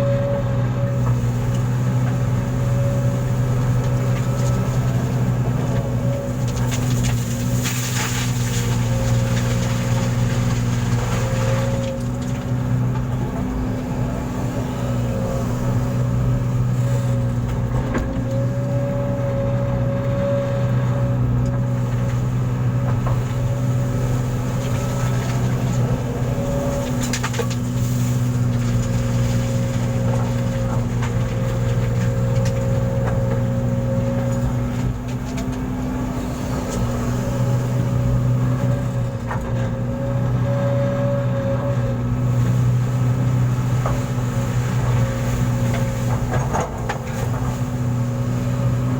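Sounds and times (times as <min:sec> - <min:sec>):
engine droning steadily: 0:00.0 - 0:48.9.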